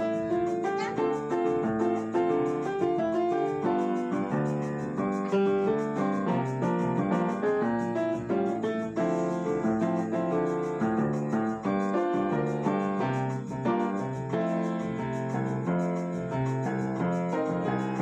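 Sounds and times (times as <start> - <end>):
upright piano playing samba: 0.0 - 18.0.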